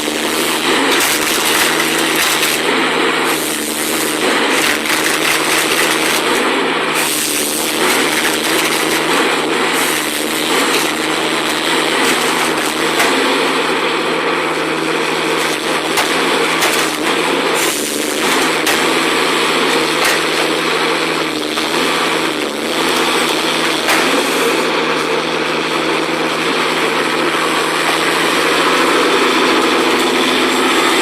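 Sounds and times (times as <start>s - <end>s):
small engine running: 0.0s - 31.0s.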